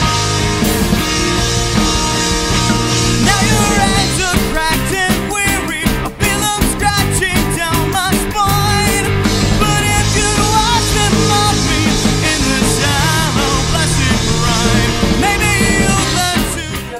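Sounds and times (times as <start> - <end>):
punk rock band: 0.0 - 16.9
person singing: 1.6 - 16.9.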